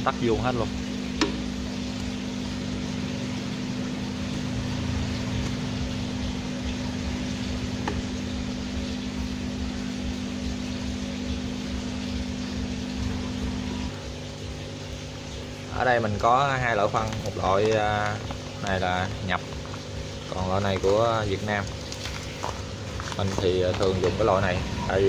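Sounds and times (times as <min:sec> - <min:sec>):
machine humming and hissing: 0:00.0 - 0:25.0.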